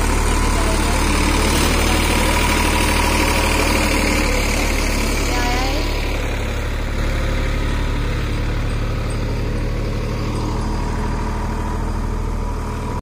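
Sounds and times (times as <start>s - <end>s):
diesel tractor engine humming: 0.0s - 13.0s.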